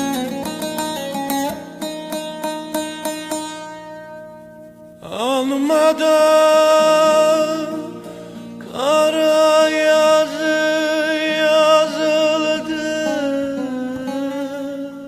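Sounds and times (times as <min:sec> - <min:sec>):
instrumental accompaniment: 0:00.0 - 0:15.0
person singing long wavering notes: 0:00.0 - 0:15.0.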